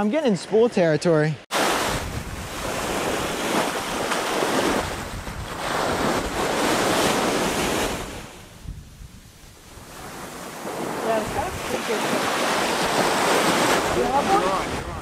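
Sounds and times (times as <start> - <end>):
surf breaking on shore: 1.5 - 15.0
wind buffeting microphone: 1.8 - 15.0.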